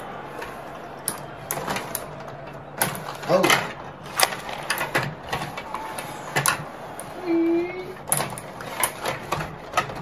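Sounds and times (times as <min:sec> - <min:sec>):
plastic clacks of rod hockey game: 0:00.0 - 0:07.2, 0:08.0 - 0:10.0.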